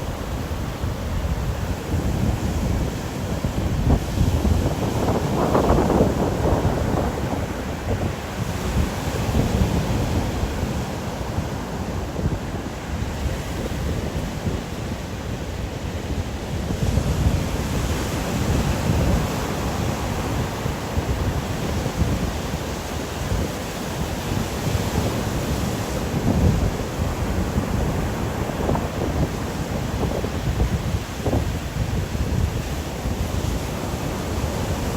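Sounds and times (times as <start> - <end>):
wind gusts: 0.0 - 34.9.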